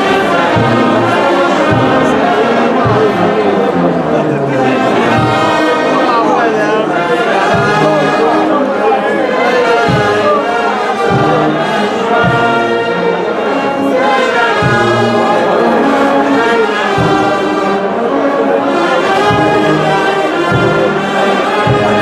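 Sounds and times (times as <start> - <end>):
low drum beats: 0.0 - 8.6, 9.5 - 17.8, 18.5 - 22.0
brass instruments: 0.0 - 22.0.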